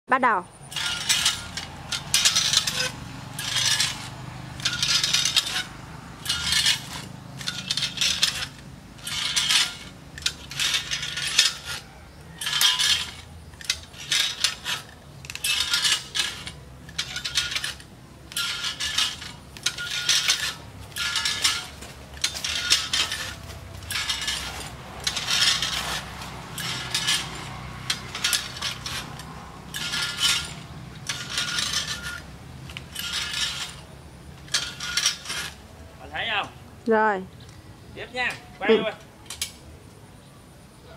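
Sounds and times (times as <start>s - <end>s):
metal climber clinking on trunk: 0.7s - 35.6s.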